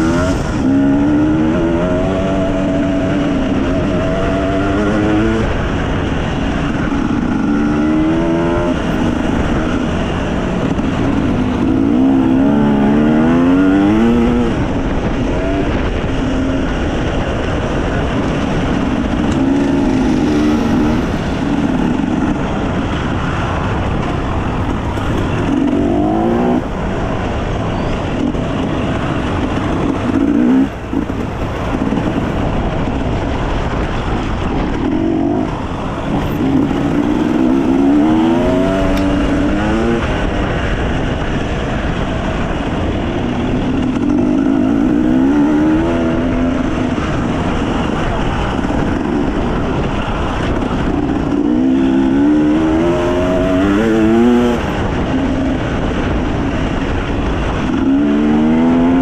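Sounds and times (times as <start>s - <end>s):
dirt bike engine revving: 0.0s - 27.1s, 28.4s - 32.7s, 34.9s - 41.5s, 43.5s - 56.2s
steady rush of noise: 0.0s - 59.0s.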